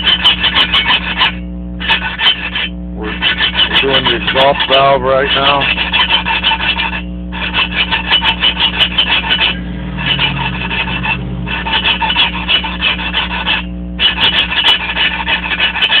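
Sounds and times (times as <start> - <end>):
valve lapping gritty rasping: 0.0 - 16.0.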